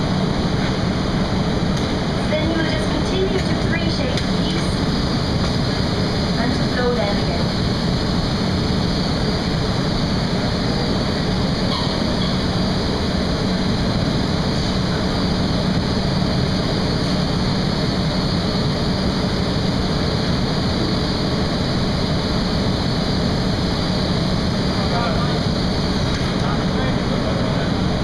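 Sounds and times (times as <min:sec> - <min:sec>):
gas furnaces roaring: 0:00.0 - 0:28.0
machinery hum: 0:00.0 - 0:28.0.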